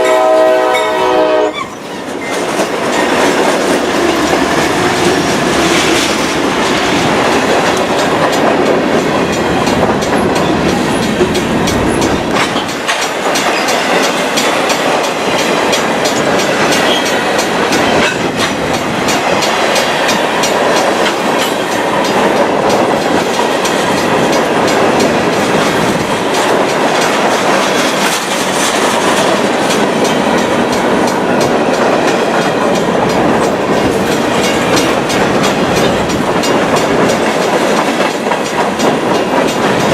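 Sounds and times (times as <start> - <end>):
steady train rumble: 0.0 - 39.9
train wheels clacking over joints: 1.5 - 39.9.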